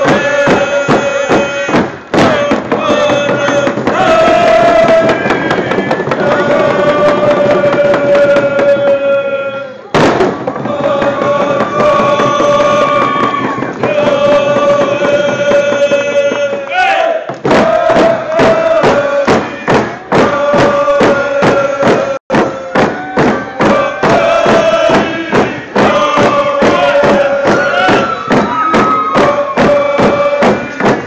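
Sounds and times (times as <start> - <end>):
drums beating steadily: 0.0 - 31.0
group chanting long held notes: 0.0 - 31.0.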